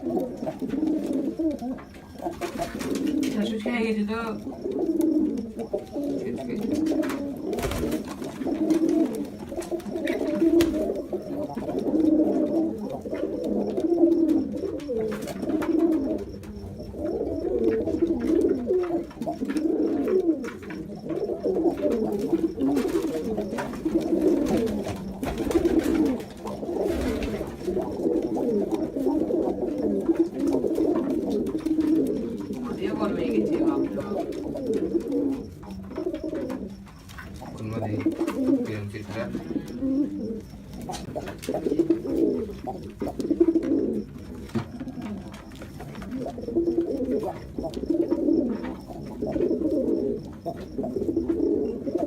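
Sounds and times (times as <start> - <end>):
pigeon cooing: 0.0 - 52.0.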